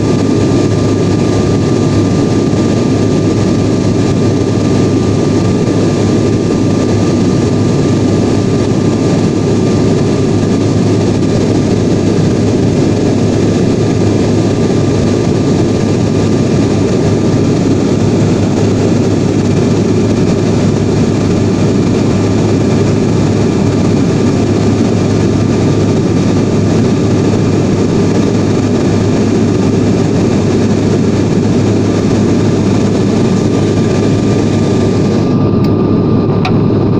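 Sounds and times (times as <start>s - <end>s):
faint steady whine: 0.0s - 36.9s
jet engines and airflow in cabin: 0.0s - 36.9s.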